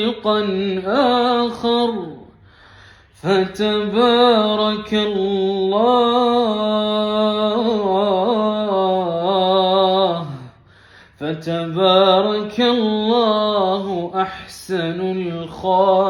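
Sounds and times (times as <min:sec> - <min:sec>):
man chanting: 0:00.0 - 0:02.4, 0:03.2 - 0:10.6, 0:11.2 - 0:16.0.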